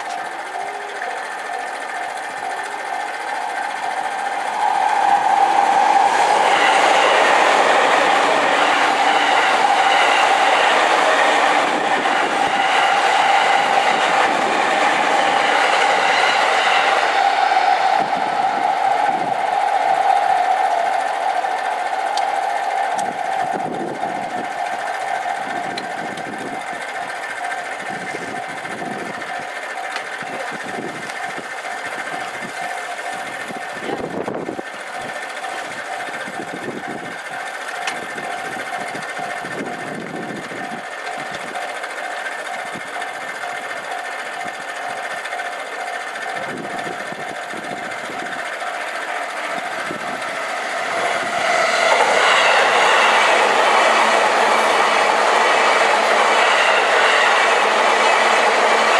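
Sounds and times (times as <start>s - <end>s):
electric train rushing past: 0.0s - 58.9s
level-crossing warning bell ringing: 0.0s - 58.9s
train wheels on rails: 0.0s - 58.9s.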